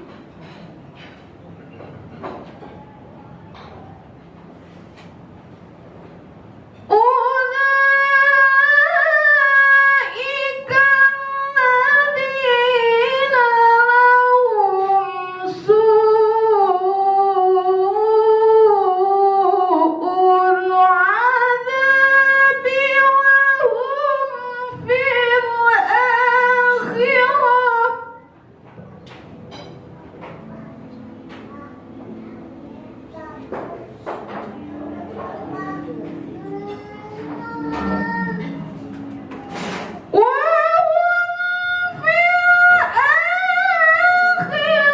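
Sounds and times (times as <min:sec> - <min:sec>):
woman reciting melodically: 0:06.9 - 0:28.5, 0:30.4 - 0:44.9.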